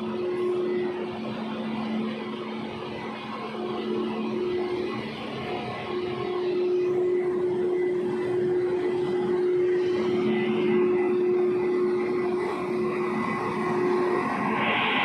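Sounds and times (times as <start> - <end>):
train running hum: 0.0 - 15.0.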